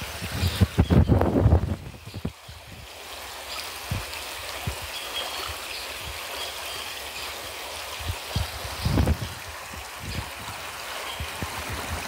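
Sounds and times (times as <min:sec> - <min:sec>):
stream babbling over stones: 0:00.0 - 0:12.0.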